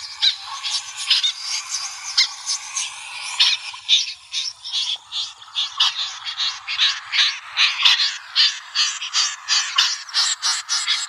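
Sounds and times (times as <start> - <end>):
scratchy snipe calls: 0.0 - 11.0.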